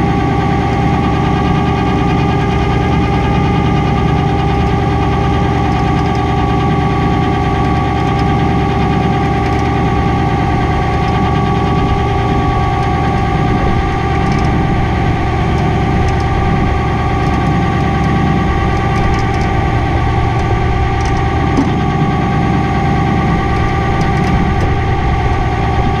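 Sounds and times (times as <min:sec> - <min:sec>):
constant whine: 0:00.0 - 0:26.0
truck engine idling: 0:00.0 - 0:26.0.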